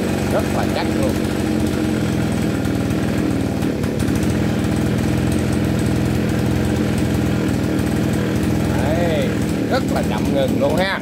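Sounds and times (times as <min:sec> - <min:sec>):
brush cutter engine running: 0:00.0 - 0:11.0.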